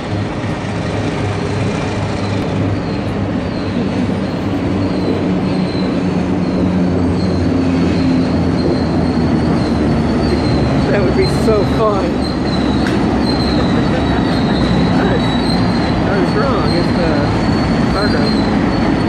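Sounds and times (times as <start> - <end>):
diesel locomotive engines humming: 0.0 - 19.0
faint high wheel squeal: 1.9 - 19.0.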